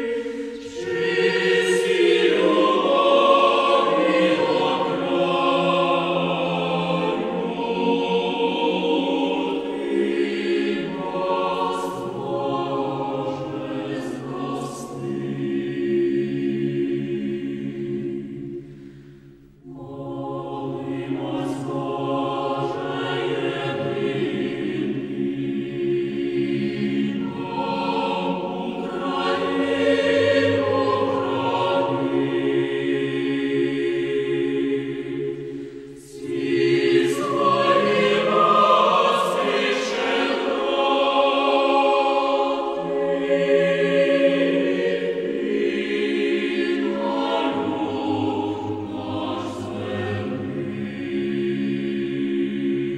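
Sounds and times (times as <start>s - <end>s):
choir singing long chords: 0.0s - 52.9s.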